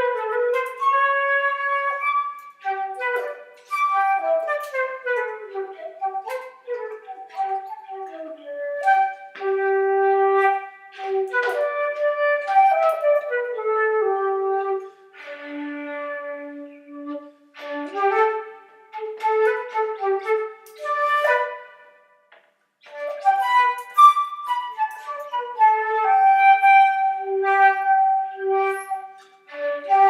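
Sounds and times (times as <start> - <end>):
solo flute-like melody: 0.0 - 30.0.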